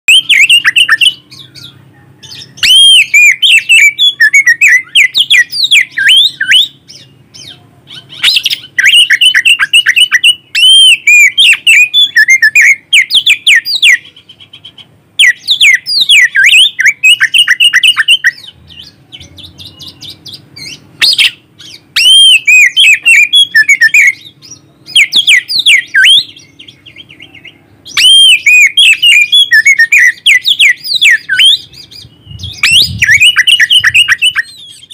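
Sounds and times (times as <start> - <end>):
bird singing whistled notes: 0.1 - 34.9.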